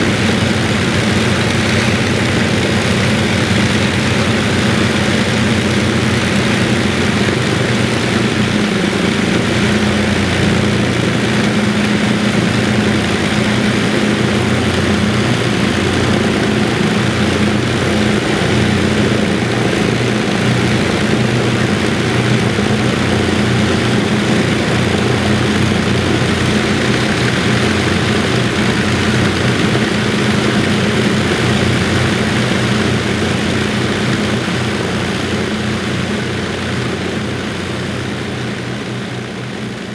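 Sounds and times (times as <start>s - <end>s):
aircraft piston engines droning: 0.0s - 39.9s.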